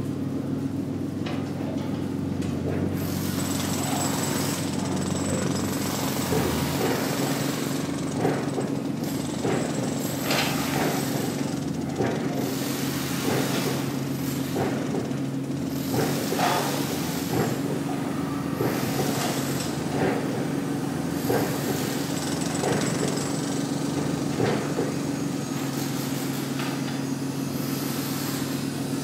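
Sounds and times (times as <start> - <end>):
dense mechanical noise: 0.0 - 29.0.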